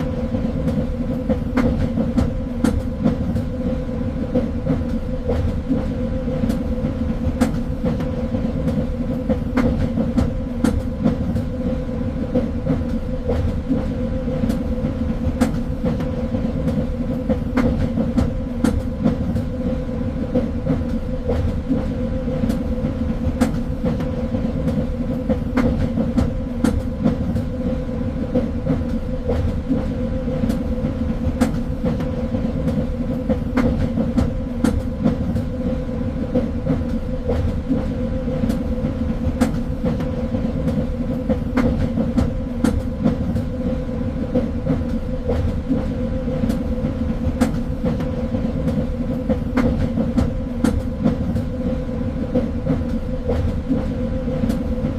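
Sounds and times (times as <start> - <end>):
train rumbling on rails: 0.0 - 54.9
train wheels clacking: 0.0 - 54.9.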